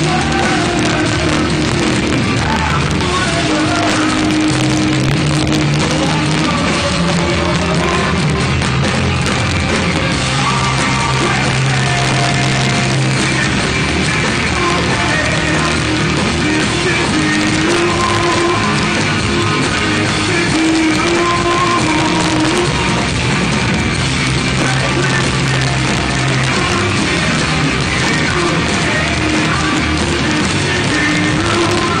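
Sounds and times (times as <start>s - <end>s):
person yelling singing: 0.0s - 8.4s, 10.2s - 23.0s, 24.6s - 32.0s
live rock band playing: 0.0s - 32.0s.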